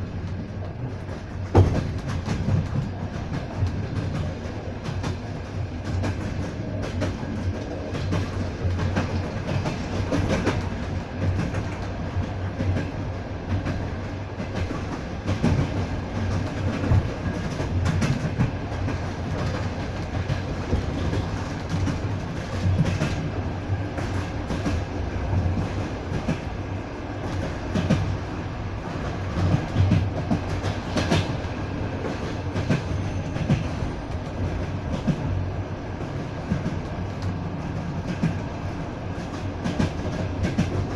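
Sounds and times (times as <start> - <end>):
wheels clacking over rail joints: 0.0 - 26.6, 27.2 - 35.4
train wheels rumbling: 0.0 - 40.9.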